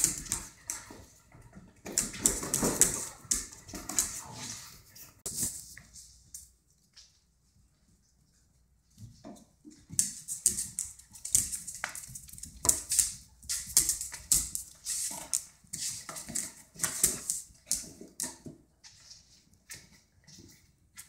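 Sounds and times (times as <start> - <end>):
dogs scuffling: 0.0 - 21.0.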